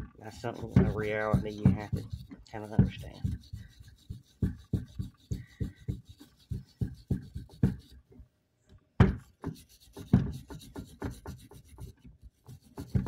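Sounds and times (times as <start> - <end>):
brush scrubbing metal: 0.0 - 8.1, 9.2 - 13.0.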